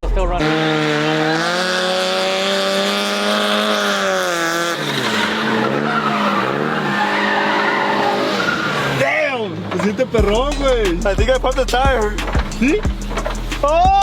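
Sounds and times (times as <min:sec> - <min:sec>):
car engine revving: 0:00.0 - 0:14.0
tyres squealing: 0:00.4 - 0:14.0.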